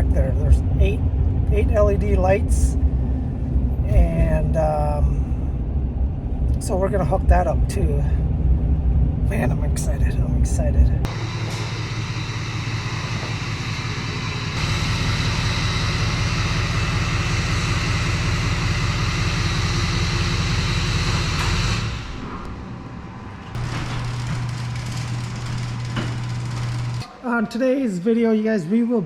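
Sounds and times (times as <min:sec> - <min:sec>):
truck engine rumble: 0:00.0 - 0:27.1
low hum: 0:00.0 - 0:27.4.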